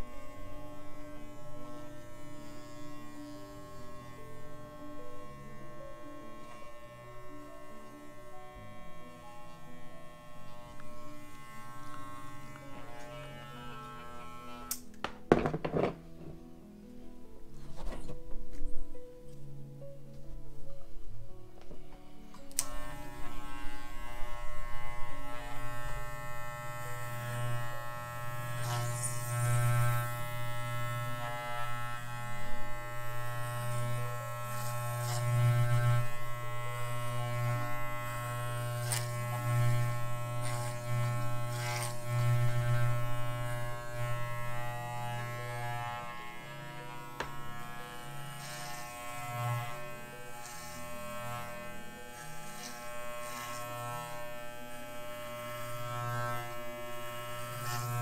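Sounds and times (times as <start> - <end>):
electric clippers buzzing: 0.0 - 16.0, 21.9 - 58.0.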